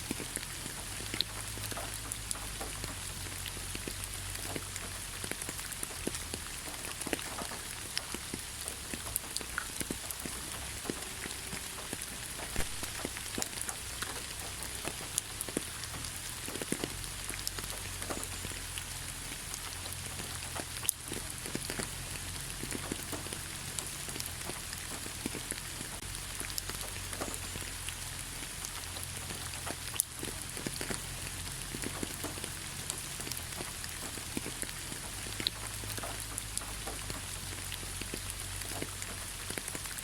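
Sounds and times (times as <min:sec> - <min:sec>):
light rain pattering on leaves: 0:00.0 - 0:40.0.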